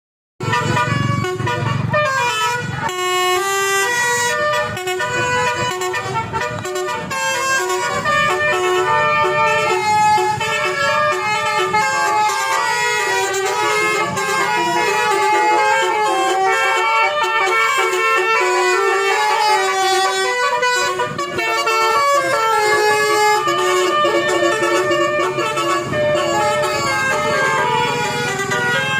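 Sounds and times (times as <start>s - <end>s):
musical air horn melody: 0.4s - 28.9s.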